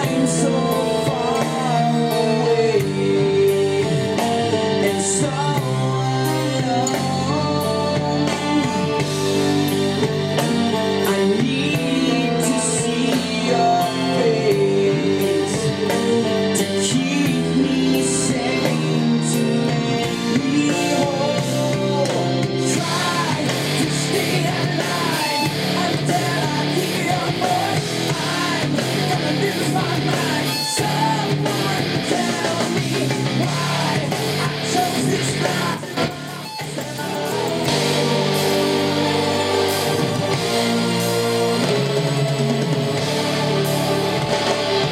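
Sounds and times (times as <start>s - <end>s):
rock music over speakers: 0.0s - 44.9s.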